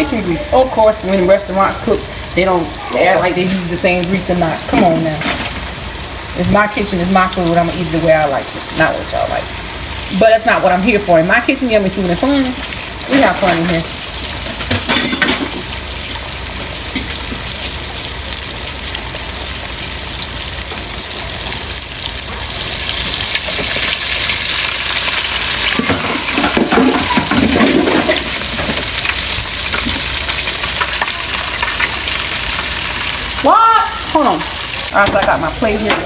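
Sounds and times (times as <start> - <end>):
fish deep-frying in hot grease: 0.0 - 35.9.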